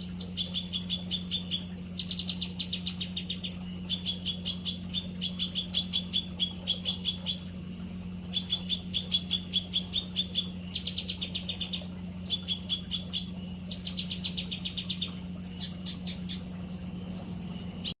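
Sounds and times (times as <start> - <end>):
songbird chattering trills: 0.0 - 18.0
steady low hum: 0.0 - 18.0.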